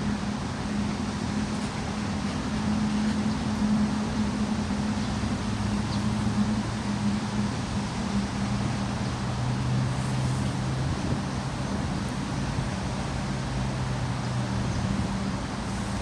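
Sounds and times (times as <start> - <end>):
running floodwater: 0.0 - 16.0.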